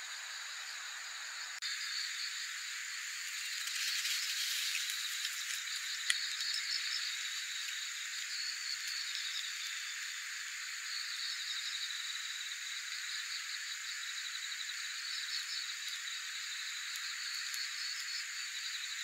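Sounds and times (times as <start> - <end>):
high hiss of insect song: 0.0 - 19.0
insects chirping in trills: 0.0 - 19.0.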